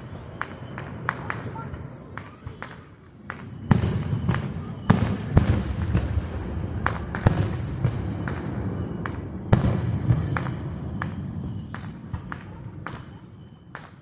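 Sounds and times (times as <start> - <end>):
fireworks popping and crackling: 0.0 - 14.0
low rumble of fireworks: 0.0 - 14.0
loud firework bang: 2.2 - 14.0.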